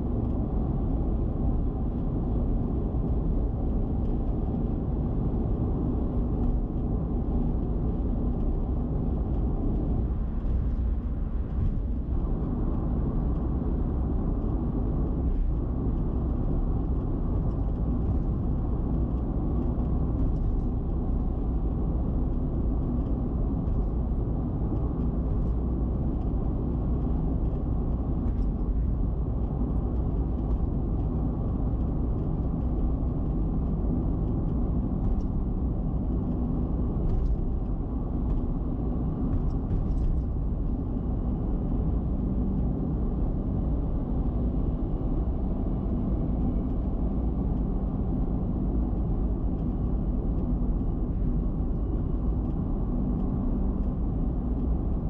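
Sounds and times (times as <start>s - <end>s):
car tyre and wind noise: 0.0s - 55.0s.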